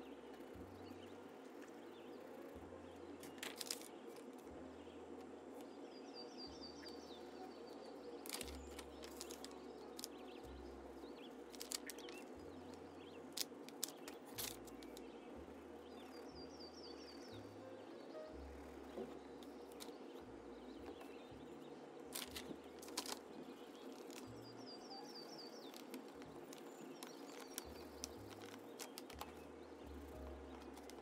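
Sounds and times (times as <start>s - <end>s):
faint background hiss: 0.0s - 31.0s.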